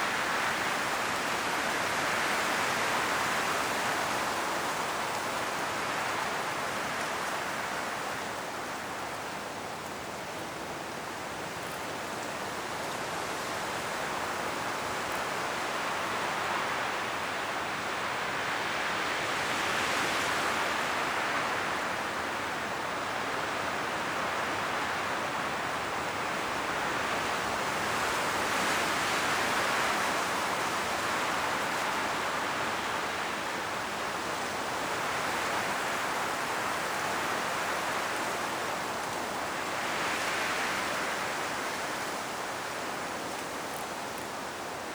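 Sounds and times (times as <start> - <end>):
wind rustling tree leaves: 0.0 - 44.9.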